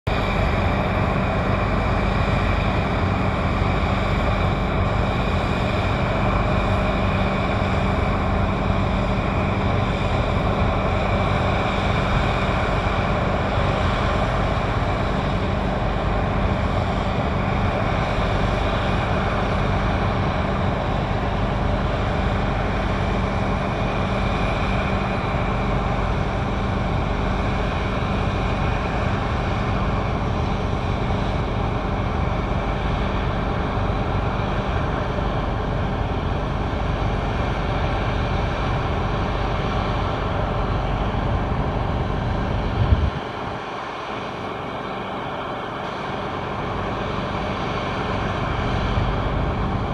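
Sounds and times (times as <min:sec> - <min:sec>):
combine harvester running: 0:00.1 - 0:49.9.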